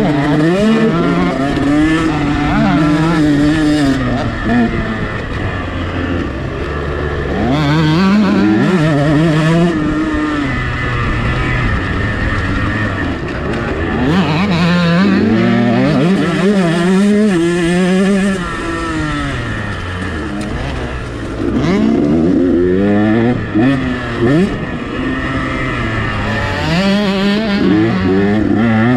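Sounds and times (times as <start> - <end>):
two-stroke motorcycle engine revving: 0.0 - 28.9.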